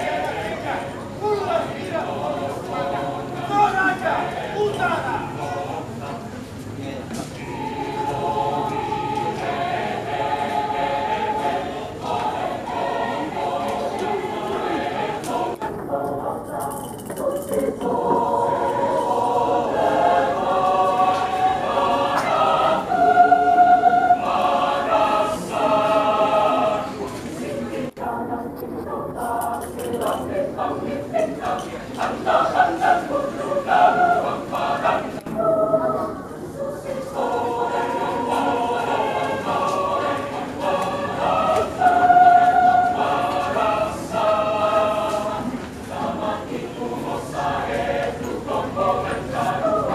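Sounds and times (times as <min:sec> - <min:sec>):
mixed choir singing in harmony: 0:00.0 - 0:49.9.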